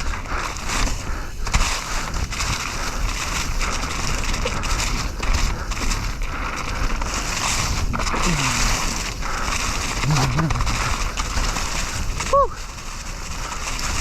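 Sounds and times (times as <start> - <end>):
tyres crunching on gravel: 0.0 - 14.0
wind on microphone: 0.0 - 14.0.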